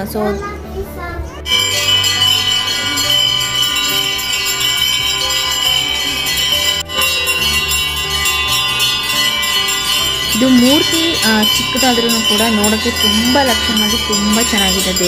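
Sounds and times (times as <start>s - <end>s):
temple bells ringing: 1.5s - 15.0s.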